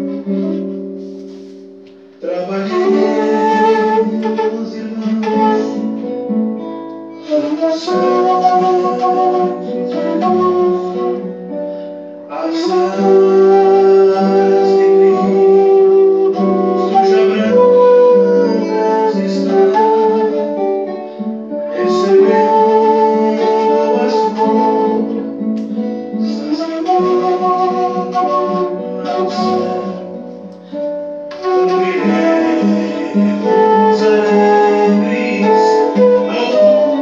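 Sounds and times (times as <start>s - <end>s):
bamboo flute melody: 0.0s - 37.0s
guitar accompaniment: 0.0s - 37.0s.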